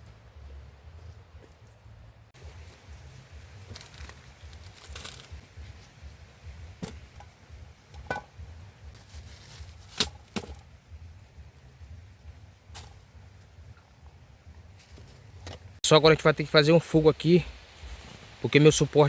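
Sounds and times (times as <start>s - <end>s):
steady low rumble: 0.0s - 10.0s, 10.6s - 19.0s.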